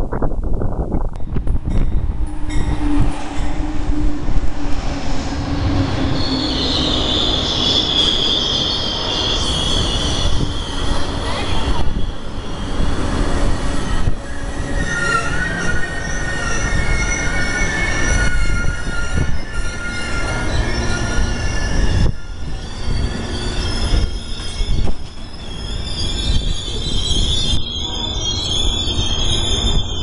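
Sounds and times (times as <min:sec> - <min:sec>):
train wheels rumbling on rails: 0:00.0 - 0:30.0
high wavering wheel squeals: 0:01.7 - 0:30.0.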